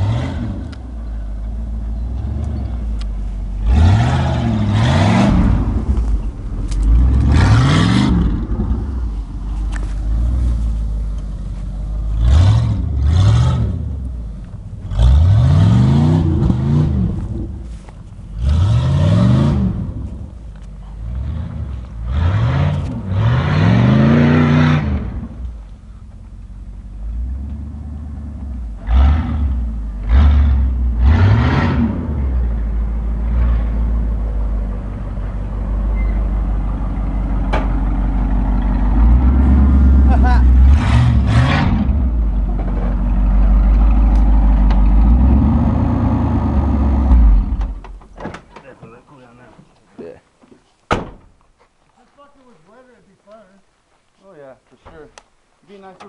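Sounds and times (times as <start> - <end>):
truck engine revving: 0.0 - 25.6, 26.6 - 48.0.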